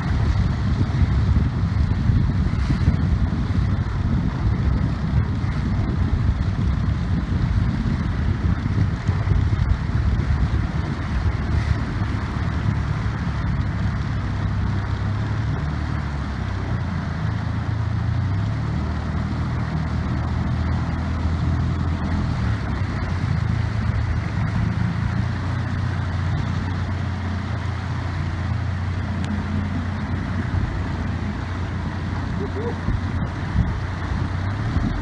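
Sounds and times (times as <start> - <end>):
boat motor running: 0.0 - 35.0
water and wind rushing: 0.0 - 35.0.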